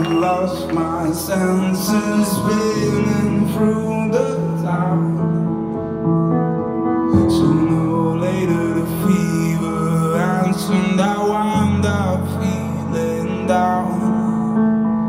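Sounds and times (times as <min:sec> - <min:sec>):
live pop band playing: 0:00.0 - 0:14.3.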